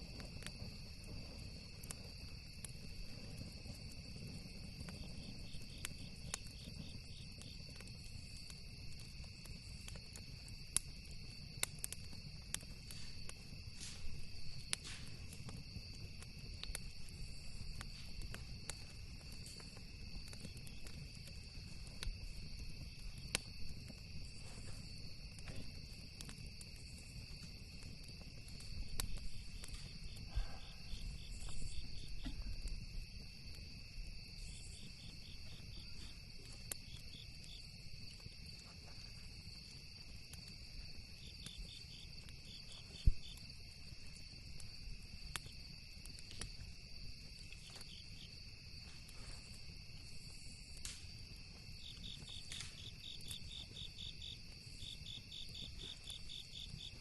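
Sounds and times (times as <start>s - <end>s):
campfire crackling and popping: 0.0s - 57.0s
crickets chirring: 0.0s - 57.0s.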